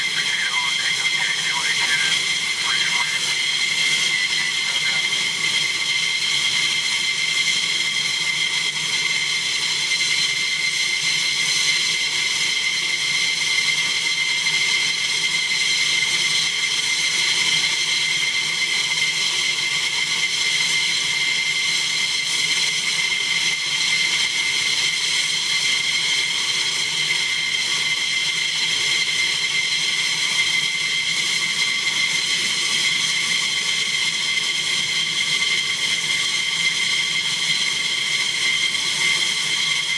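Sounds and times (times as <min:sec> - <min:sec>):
jet engines idling whine: 0:00.0 - 0:39.9.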